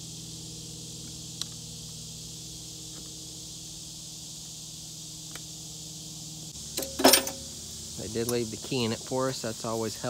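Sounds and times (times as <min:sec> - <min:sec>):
high insect buzz: 0:00.0 - 0:10.0
steady low hum: 0:00.0 - 0:10.0.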